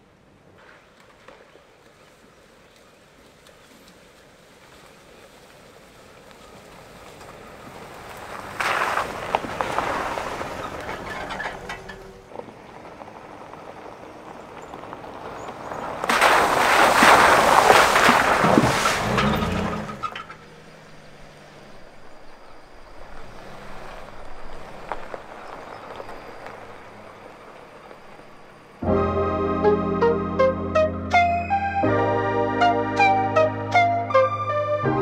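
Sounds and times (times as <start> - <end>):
tyres crunching over gravel: 0.4 - 29.1.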